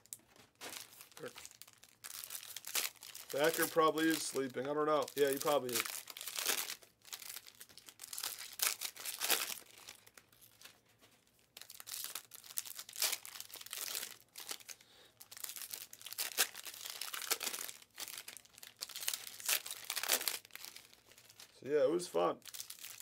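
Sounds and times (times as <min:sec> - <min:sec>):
foil wrapper crinkling: 0:00.0 - 0:21.6, 0:22.3 - 0:23.0.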